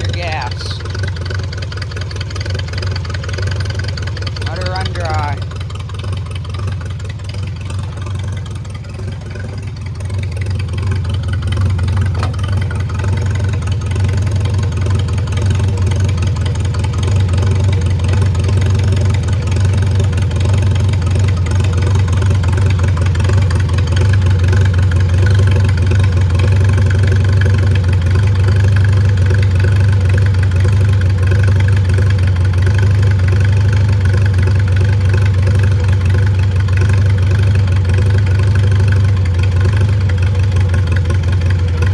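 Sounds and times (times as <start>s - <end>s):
tractor engine idling: 0.0s - 41.9s.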